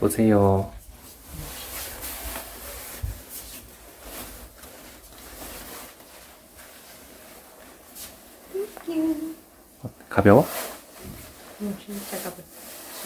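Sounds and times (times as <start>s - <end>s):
nylon coat rustling: 0.0s - 13.0s.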